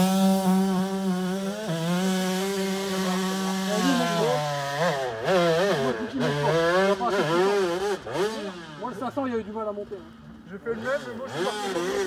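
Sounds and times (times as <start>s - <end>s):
two-stroke motorbike engine revving: 0.0s - 12.0s.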